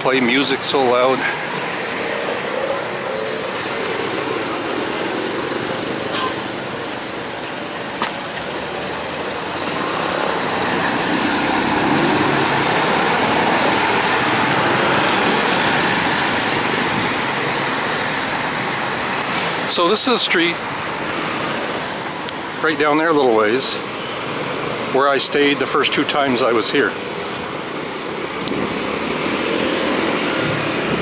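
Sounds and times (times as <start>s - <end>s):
coach engine and road noise: 0.0s - 31.0s
motor scooters: 0.1s - 31.0s.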